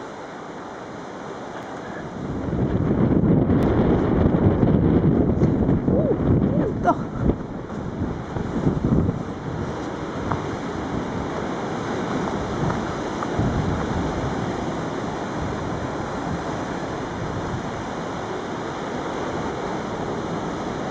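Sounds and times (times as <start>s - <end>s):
ocean surf: 0.0s - 20.9s
wind on microphone: 1.0s - 20.9s.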